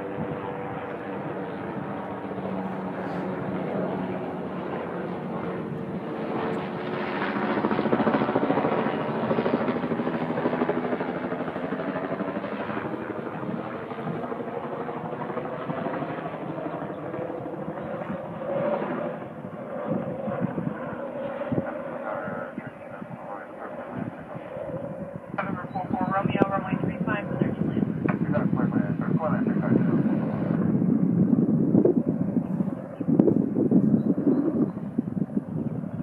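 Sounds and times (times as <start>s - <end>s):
aircraft engine passing: 0.0s - 36.0s.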